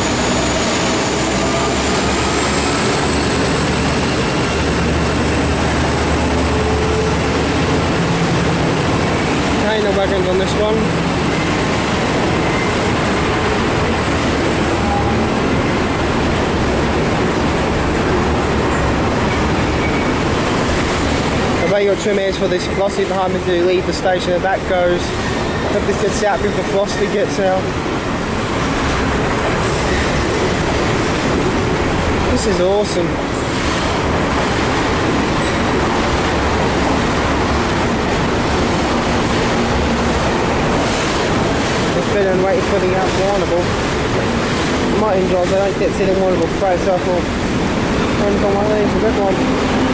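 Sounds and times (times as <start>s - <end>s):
freight wagons rumbling on rails: 0.0s - 49.9s.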